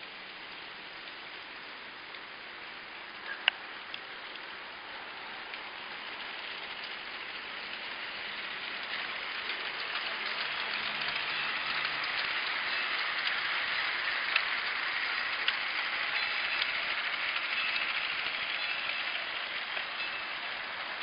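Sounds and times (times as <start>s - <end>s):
toy train whirring rattle: 0.1s - 21.0s.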